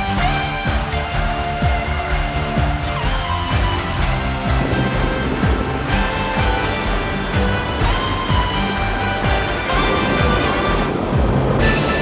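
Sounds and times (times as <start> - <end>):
held chords: 0.0 - 12.0
steady drum beat: 0.0 - 12.0.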